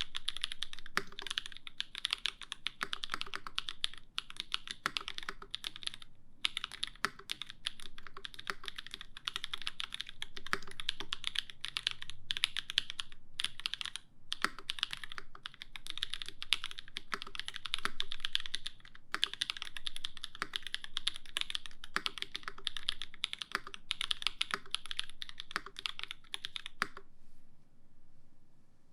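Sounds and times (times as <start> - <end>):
fast mechanical keyboard typing: 0.0 - 27.0.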